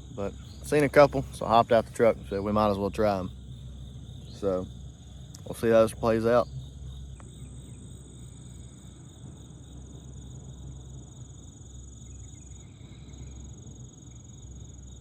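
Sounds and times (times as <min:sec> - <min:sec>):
insects trilling: 0:00.0 - 0:15.0
steady low rumble: 0:00.0 - 0:15.0.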